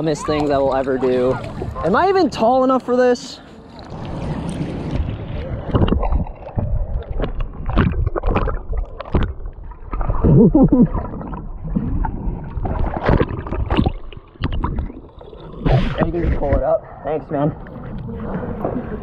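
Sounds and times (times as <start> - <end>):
water sloshing and gurgling: 0.0 - 19.0.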